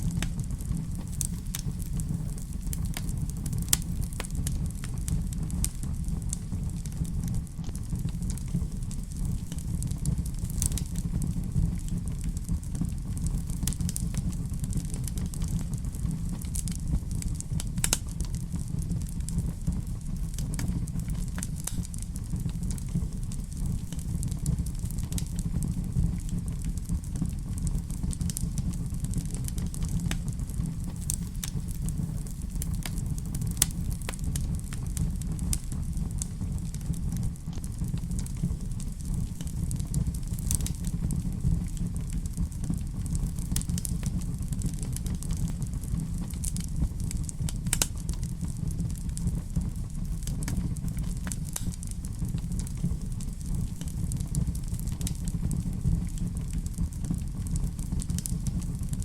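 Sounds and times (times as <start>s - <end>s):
fire flames rumbling: 0.0s - 59.0s
wood fire crackling and popping: 0.0s - 59.0s.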